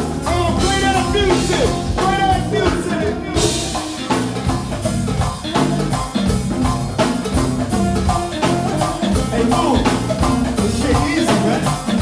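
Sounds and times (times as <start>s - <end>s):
music with drums and guitar: 0.0s - 12.0s.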